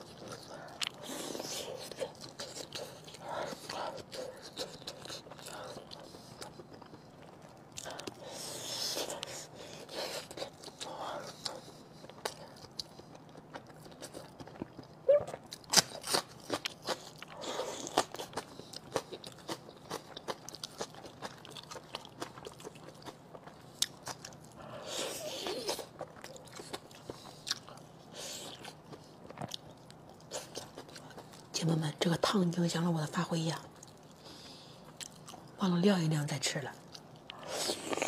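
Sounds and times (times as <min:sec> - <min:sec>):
wet chewing and smacking: 0:00.0 - 0:31.5.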